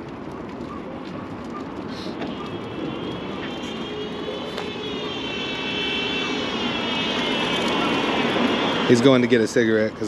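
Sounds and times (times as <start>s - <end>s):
aircraft engine droning overhead: 0.0s - 10.0s.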